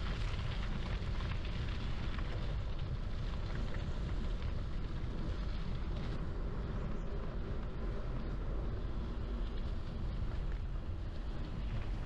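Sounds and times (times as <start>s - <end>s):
bike tyres rolling on gravel: 0.0s - 12.0s
wind rumble on microphone: 0.0s - 12.0s.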